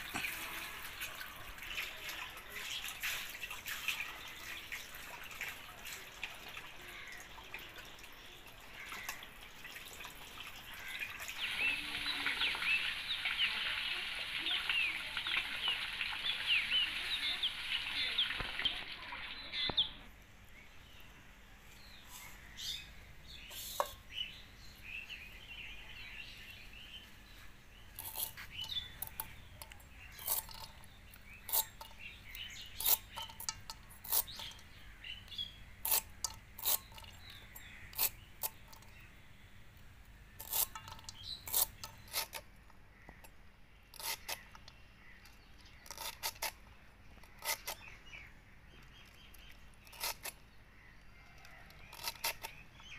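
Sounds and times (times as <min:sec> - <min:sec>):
birds chirping faintly: 0:00.0 - 0:52.9.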